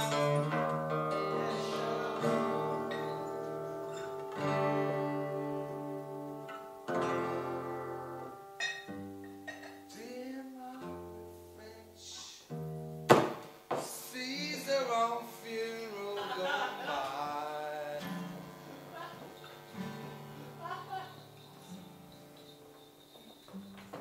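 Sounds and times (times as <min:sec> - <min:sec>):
acoustic guitar chords strummed: 0:00.0 - 0:24.0.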